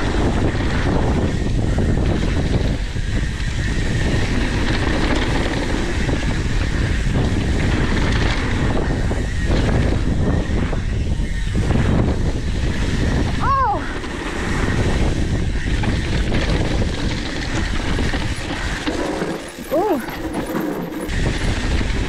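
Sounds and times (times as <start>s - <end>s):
bike rattling on dirt: 0.0s - 22.0s
wind buffeting microphone: 0.0s - 22.0s.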